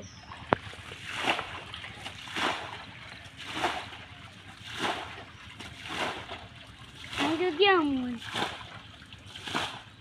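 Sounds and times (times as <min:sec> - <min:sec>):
splashing in mud and water: 0:00.1 - 0:10.0.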